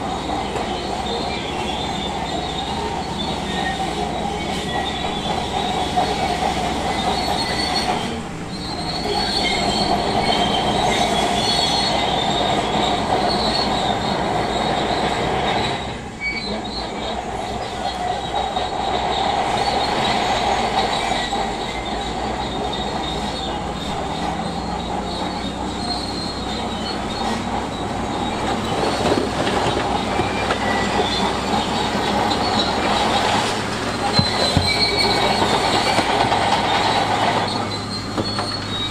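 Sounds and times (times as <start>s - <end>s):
bulldozer engine running: 0.0s - 38.9s
steel tracks squealing and clanking: 0.0s - 38.9s.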